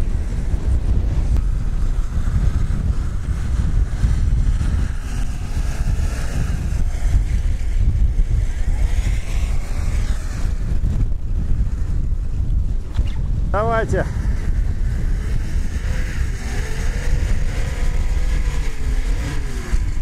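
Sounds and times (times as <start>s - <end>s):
car engine revving: 0.0s - 12.9s, 13.5s - 20.0s
wind buffeting microphone: 0.0s - 20.0s.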